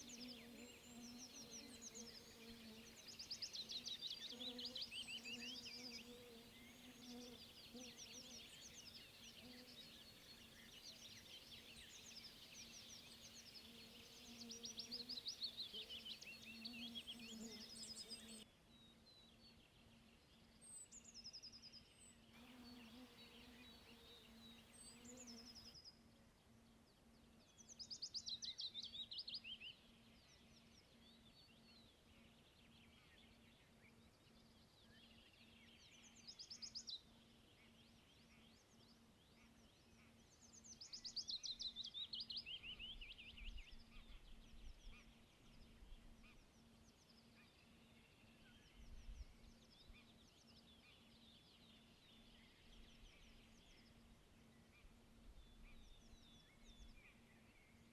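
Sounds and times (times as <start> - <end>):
small birds chirping and trilling: 0.0 - 26.0, 26.6 - 57.9.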